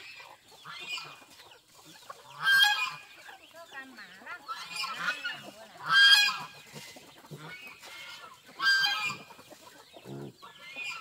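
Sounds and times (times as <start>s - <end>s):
chickens clucking and squawking: 0.0s - 11.0s.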